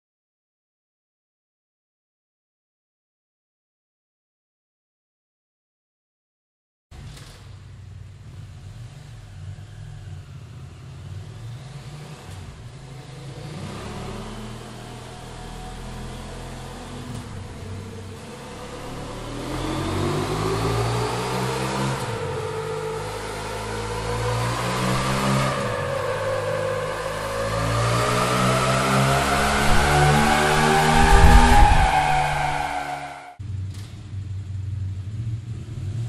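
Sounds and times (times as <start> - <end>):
motorcycle engine idling and revving: 6.9 - 36.0.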